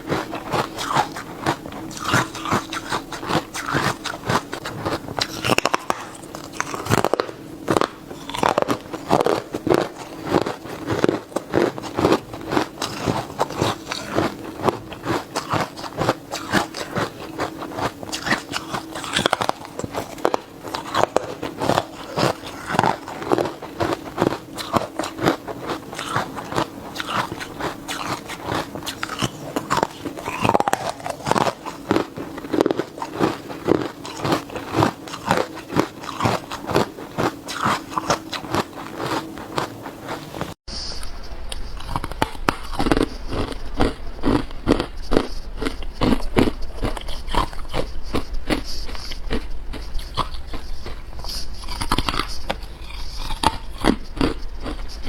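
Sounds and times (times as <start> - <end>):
ice being chewed crunching: 0.0 - 40.6, 41.5 - 55.0.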